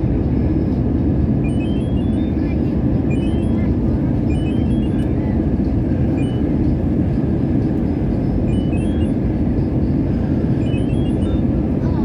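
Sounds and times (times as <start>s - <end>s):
airliner cabin jet engine rumble: 0.0s - 12.0s.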